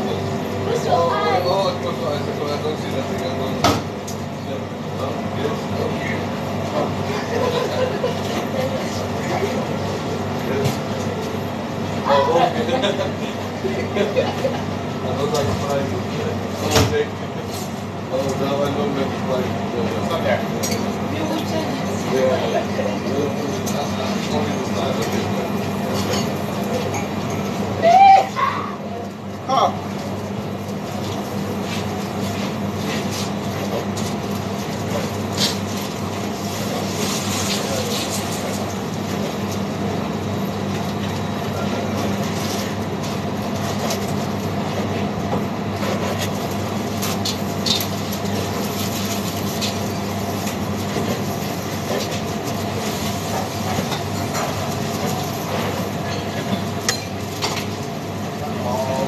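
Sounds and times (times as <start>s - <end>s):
kitchen extraction hood hum: 0.0s - 59.0s.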